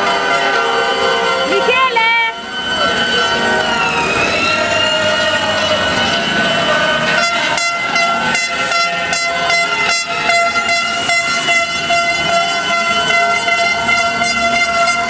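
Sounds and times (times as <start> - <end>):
horns holding long notes: 0.0 - 15.0.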